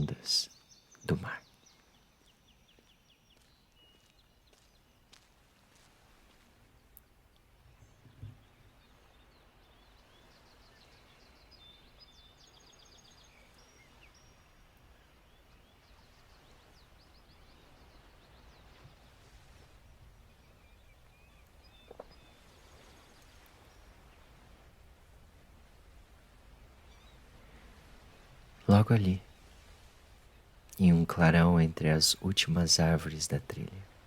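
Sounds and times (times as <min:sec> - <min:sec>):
distant sea waves rumbling: 0:00.0 - 0:34.0
small birds chirping: 0:00.0 - 0:34.0.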